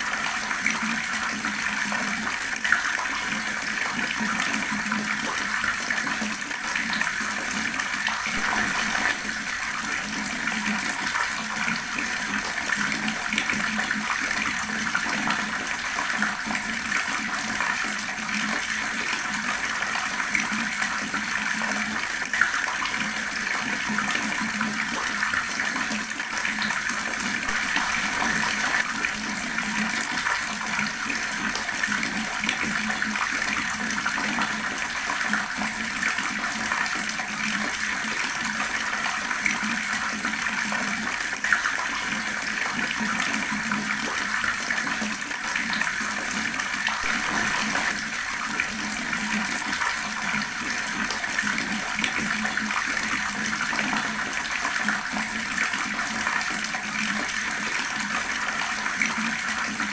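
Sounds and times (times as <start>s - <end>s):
tap water running and gurgling: 0.0s - 59.9s.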